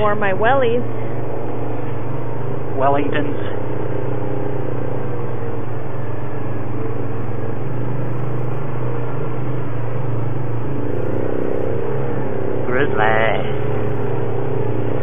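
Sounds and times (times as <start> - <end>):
quad bike engine droning: 0.0 - 15.0.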